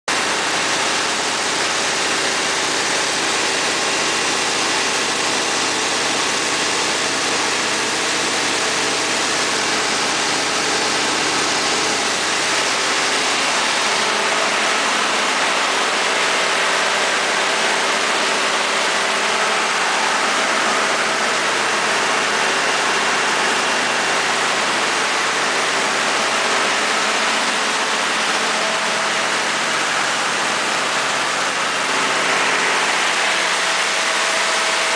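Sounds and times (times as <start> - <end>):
diesel generator running: 0.1 - 34.9.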